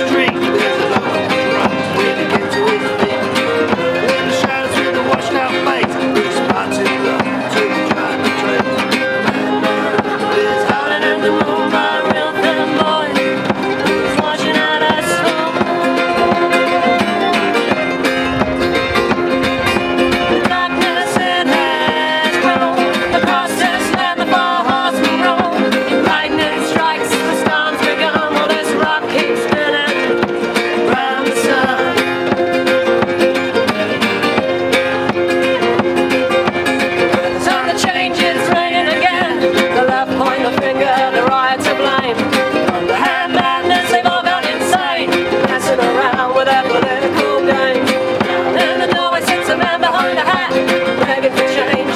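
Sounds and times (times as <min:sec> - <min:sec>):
acoustic guitars strummed: 0:00.0 - 0:51.9
fiddle playing: 0:00.0 - 0:51.9.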